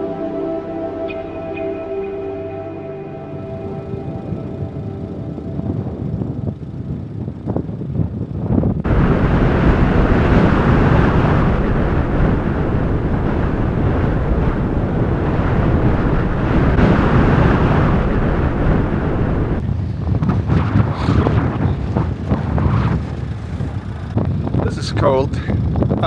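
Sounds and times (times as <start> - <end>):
blizzard wind blowing: 0.0 - 26.0.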